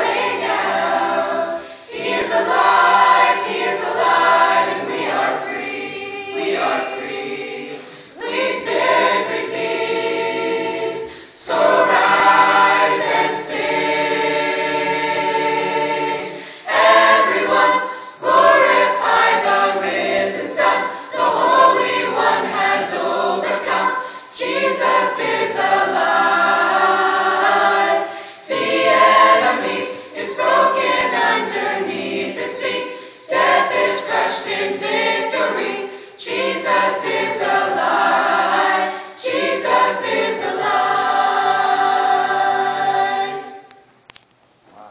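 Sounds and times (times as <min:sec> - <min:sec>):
youth choir singing in parts: 0:00.0 - 0:43.7.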